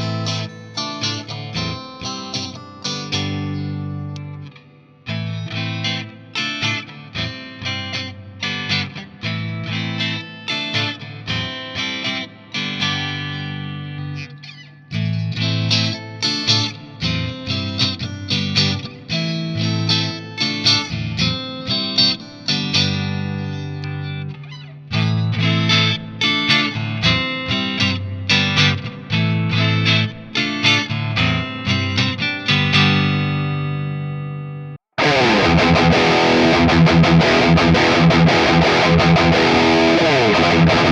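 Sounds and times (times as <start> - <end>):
distorted guitar tone: 0.0 - 40.9
electric guitar picked notes: 0.0 - 40.9.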